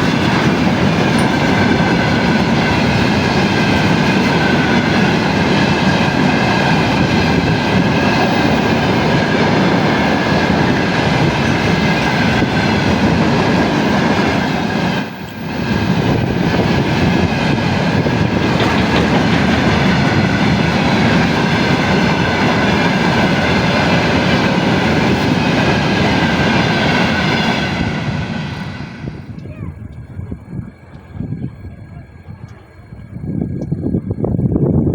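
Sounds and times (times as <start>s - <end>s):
train passing on rails: 0.0s - 34.9s.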